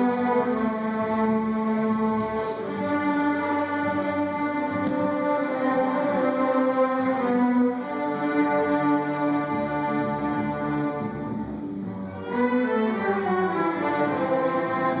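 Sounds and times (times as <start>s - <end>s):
string ensemble playing: 0.0s - 15.0s.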